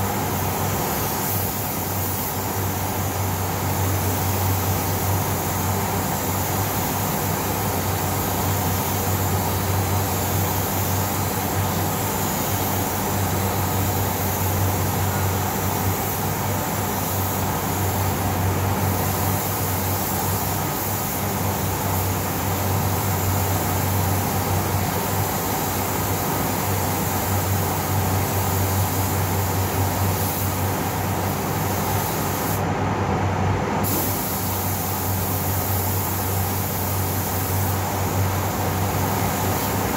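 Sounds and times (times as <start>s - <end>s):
spray gun hissing: 0.0s - 32.6s, 33.8s - 39.9s
ventilation fans humming: 0.0s - 39.9s.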